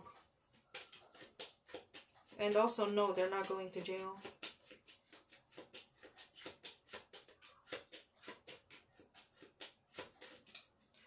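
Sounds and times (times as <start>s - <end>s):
playing cards shuffling: 0.5s - 10.8s.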